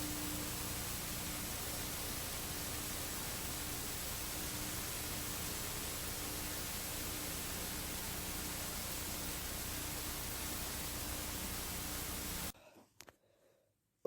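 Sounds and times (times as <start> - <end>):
faint low hum: 0.0 - 12.7
recording noise hiss: 0.0 - 13.4.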